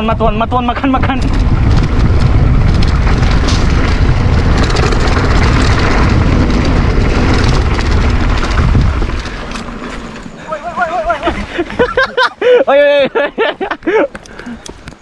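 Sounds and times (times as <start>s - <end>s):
bike tyres rolling over dirt: 0.0s - 15.0s
wind buffeting microphone: 0.0s - 15.0s.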